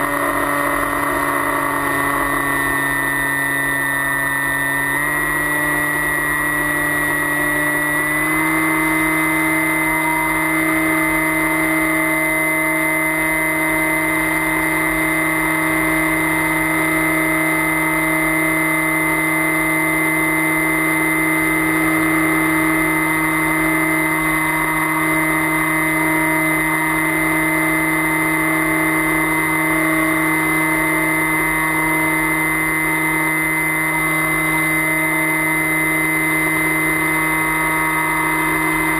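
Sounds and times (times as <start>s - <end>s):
motor and propeller droning: 0.0s - 38.9s.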